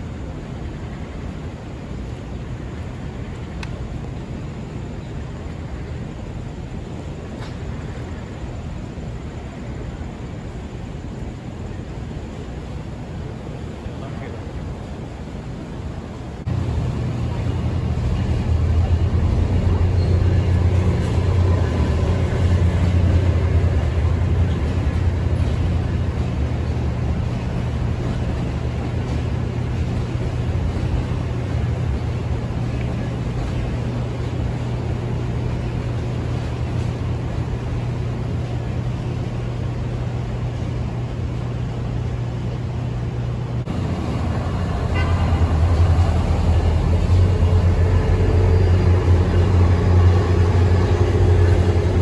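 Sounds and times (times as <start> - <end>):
diesel locomotive engine drone: 0.0 - 52.0
train cars rumbling over bridge: 0.0 - 52.0.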